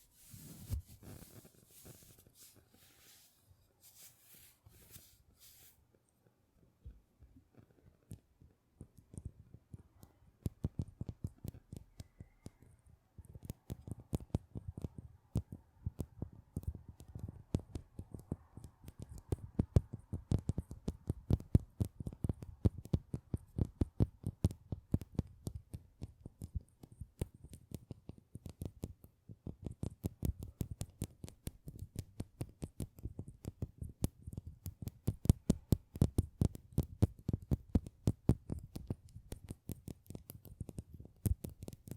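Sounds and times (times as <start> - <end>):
light clicks and taps: 5.9 - 41.9.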